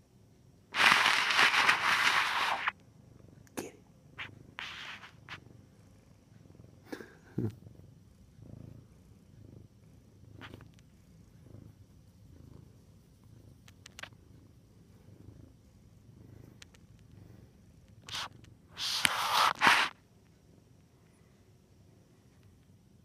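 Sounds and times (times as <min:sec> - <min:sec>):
cat purring: 0:00.6 - 0:23.0.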